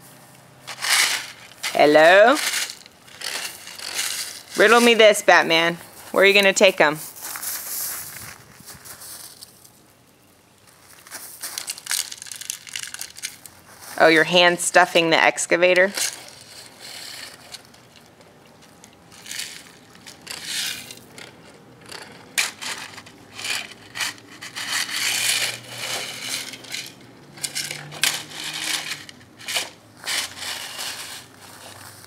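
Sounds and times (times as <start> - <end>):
gravel crunching and scraping: 0.0 - 15.0, 15.7 - 32.0.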